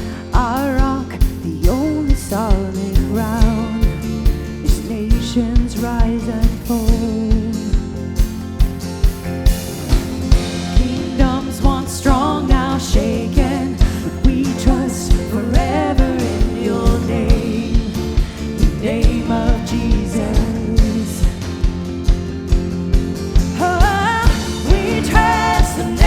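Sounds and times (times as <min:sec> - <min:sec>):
worship song with band: 0:00.0 - 0:26.0.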